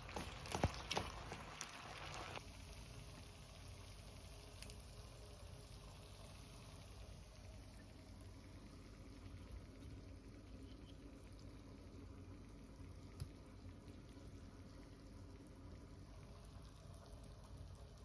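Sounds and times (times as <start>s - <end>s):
food bubbling on stove: 0.0s - 18.0s.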